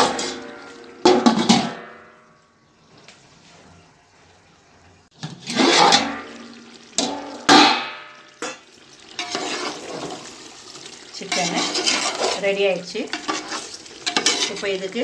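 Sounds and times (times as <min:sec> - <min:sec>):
chicken sizzling in a pot: 0:00.0 - 0:02.0, 0:04.5 - 0:15.0.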